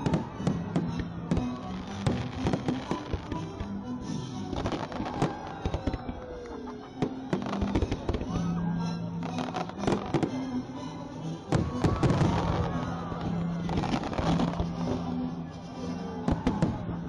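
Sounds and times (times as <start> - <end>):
fireworks bangs and crackles: 0.0 - 8.5, 9.2 - 10.6, 11.5 - 15.2, 15.9 - 17.0.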